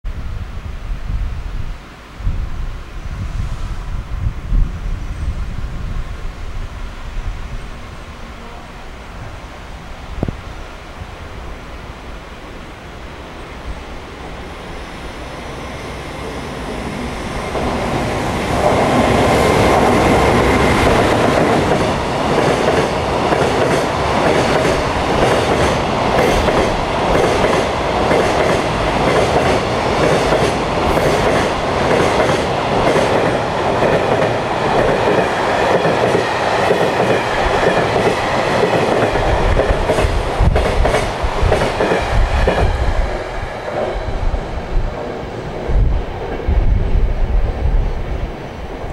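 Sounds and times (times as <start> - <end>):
low gusty rumbling: 0.1 - 11.9, 16.0 - 48.9
freight train passing: 0.2 - 48.9.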